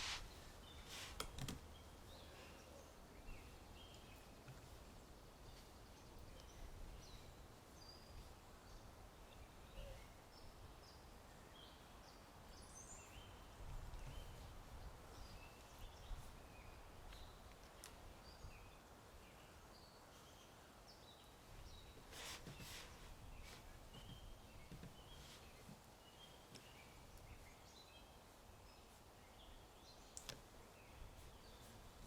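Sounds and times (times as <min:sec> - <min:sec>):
faint birdsong chirps and trills: 0:00.0 - 0:32.0.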